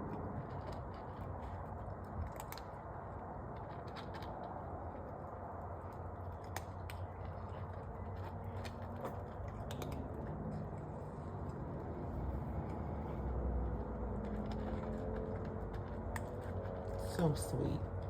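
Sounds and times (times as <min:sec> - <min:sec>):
cats chewing and lapping: 0:00.0 - 0:18.0
low background hum: 0:00.0 - 0:18.0.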